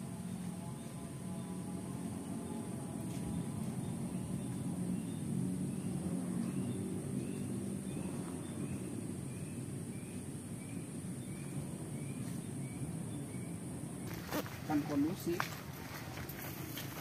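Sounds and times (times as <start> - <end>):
constant high hiss: 0.0 - 17.0.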